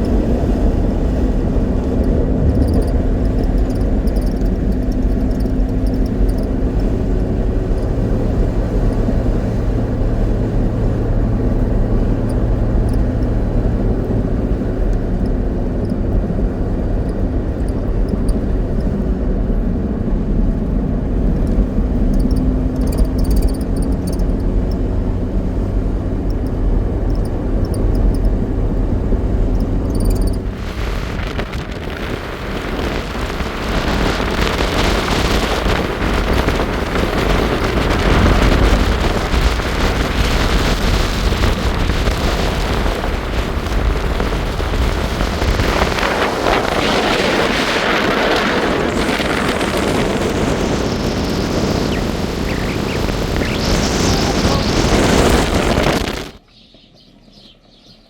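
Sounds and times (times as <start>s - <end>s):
rough wind and road noise: 0.0s - 58.0s
vehicle engine humming: 0.0s - 58.0s.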